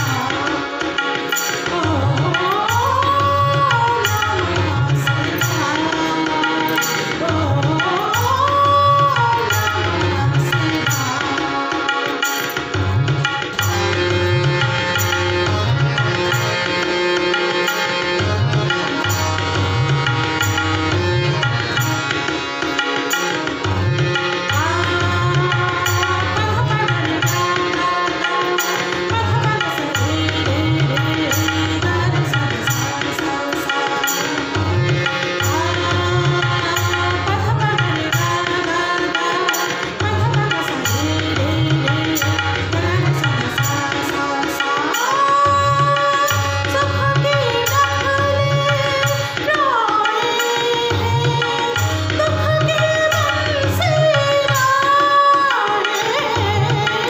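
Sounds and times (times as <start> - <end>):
tabla rhythm: 0.0 - 57.0
woman singing: 0.0 - 57.0.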